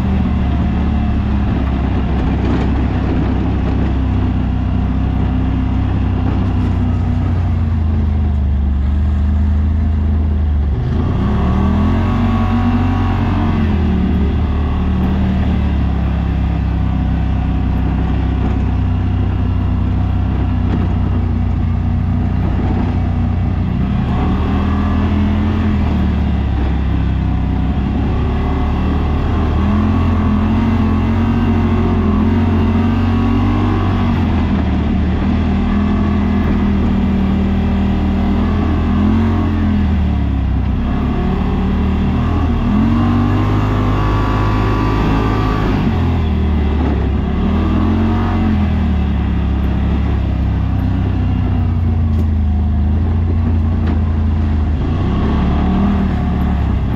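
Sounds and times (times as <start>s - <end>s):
utility vehicle engine running: 0.0s - 56.9s.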